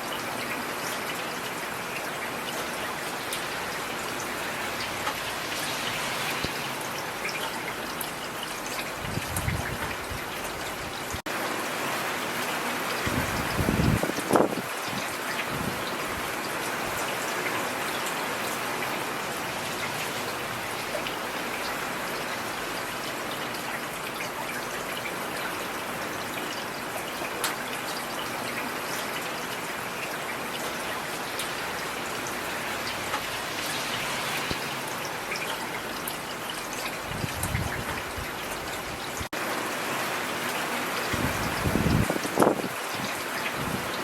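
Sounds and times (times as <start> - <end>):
rain falling on a street: 0.0 - 44.0.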